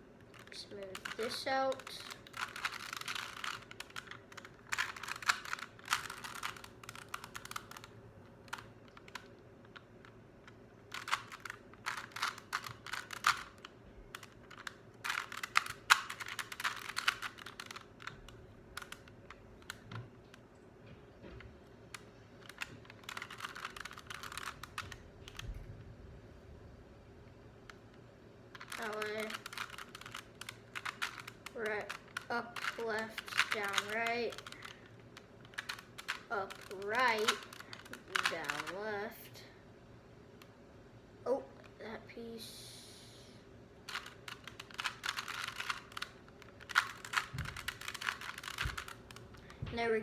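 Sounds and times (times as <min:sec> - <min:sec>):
puzzle cube rattling clicks: 0:00.2 - 0:20.4, 0:21.9 - 0:25.6, 0:28.5 - 0:38.9, 0:43.9 - 0:49.9.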